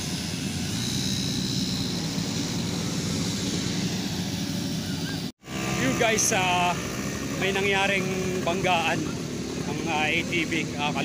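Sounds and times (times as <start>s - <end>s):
quad bike engines droning: 0.0s - 11.0s
thin high whine: 0.0s - 11.0s.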